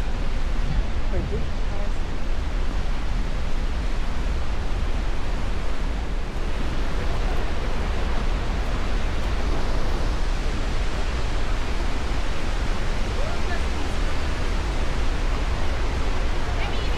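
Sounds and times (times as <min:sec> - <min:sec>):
waterfall roaring: 0:00.0 - 0:16.9.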